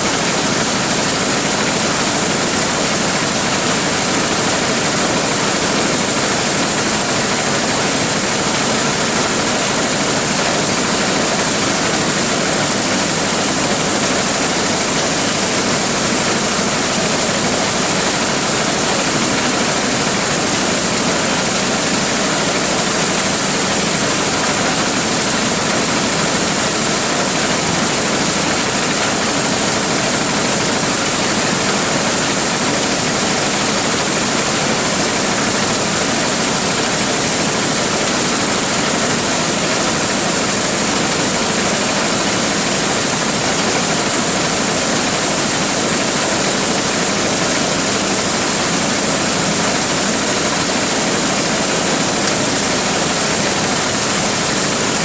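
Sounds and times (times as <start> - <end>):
corn sheller machine running: 0.0 - 55.0.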